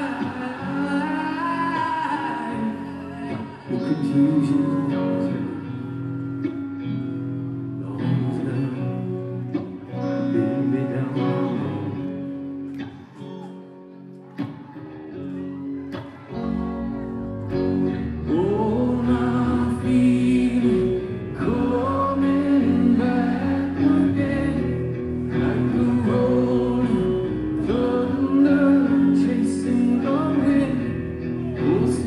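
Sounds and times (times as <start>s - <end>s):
man singing lead vocals: 0.0s - 13.6s, 17.7s - 32.0s
live rock band playing: 0.0s - 32.0s.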